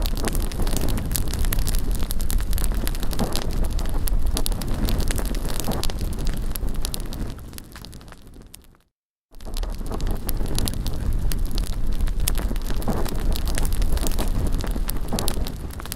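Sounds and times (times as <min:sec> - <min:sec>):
bonfire crackling: 0:00.0 - 0:15.9
wind rumbling on microphone: 0:00.0 - 0:15.9.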